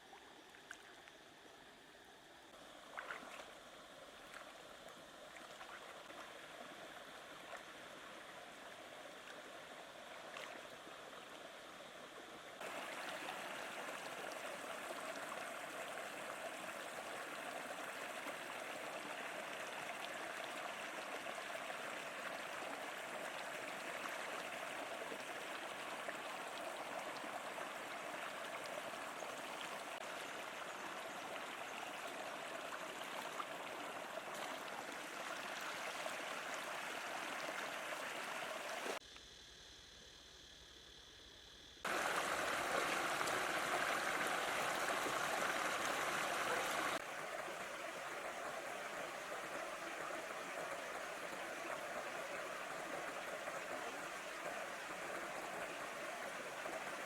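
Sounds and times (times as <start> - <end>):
flowing water rushing: 2.5 - 39.0, 41.8 - 57.0.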